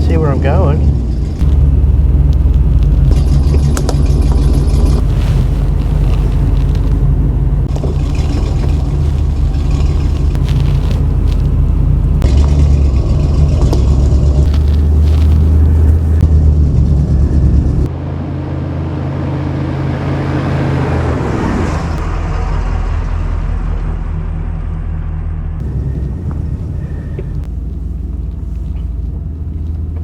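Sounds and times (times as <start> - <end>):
truck engine and road rumble: 0.0 - 30.0.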